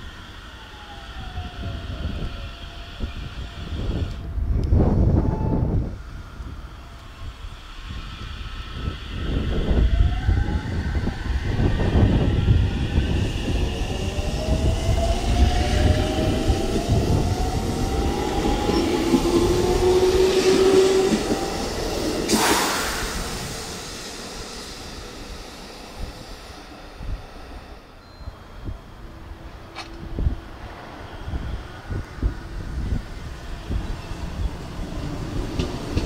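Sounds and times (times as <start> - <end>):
rumble of wheels on rail: 0.0 - 36.0
electric train motor whine: 5.9 - 36.0.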